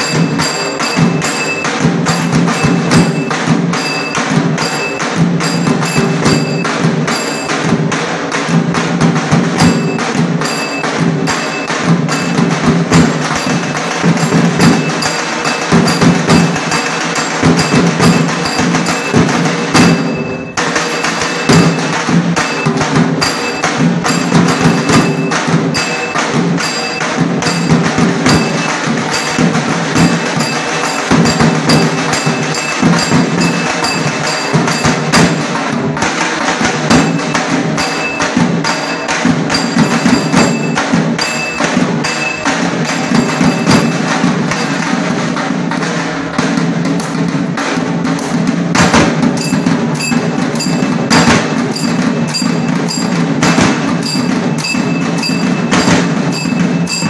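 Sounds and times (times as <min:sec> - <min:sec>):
large drums beaten fast: 0:00.0 - 0:57.0.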